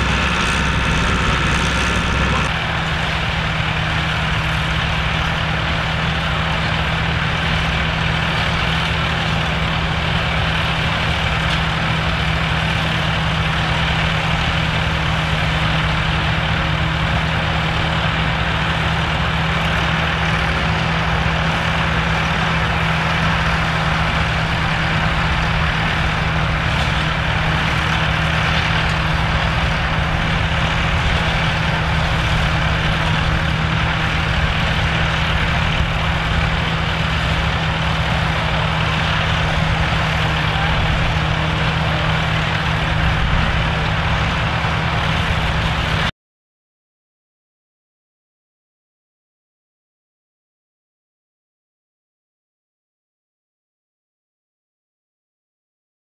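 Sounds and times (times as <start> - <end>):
threshing machine running: 0.0 - 46.1.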